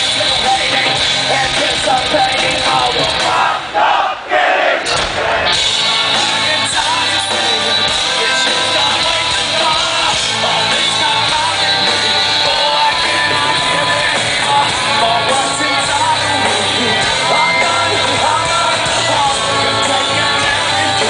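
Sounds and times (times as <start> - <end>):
live rock band playing: 0.0 - 3.7, 4.8 - 21.0
sung and yelled vocals: 0.0 - 21.0.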